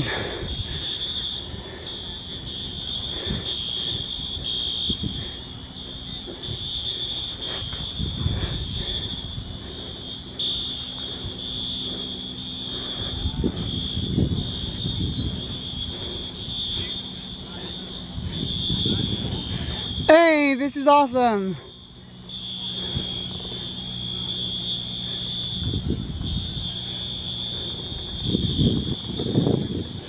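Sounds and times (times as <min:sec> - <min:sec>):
distant fire alarm horns: 0:00.0 - 0:30.0.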